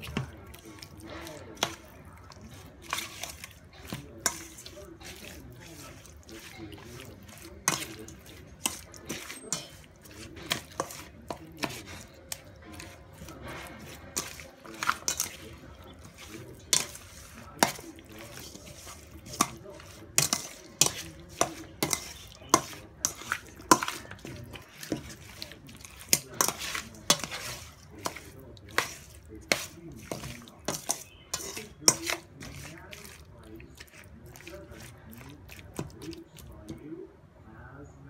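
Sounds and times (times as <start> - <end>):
soft wet mixing: 0.0 - 38.0.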